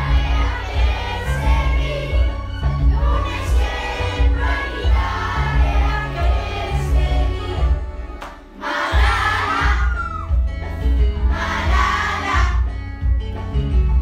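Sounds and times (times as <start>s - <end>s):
voices singing together: 0.0s - 10.2s, 11.2s - 12.7s.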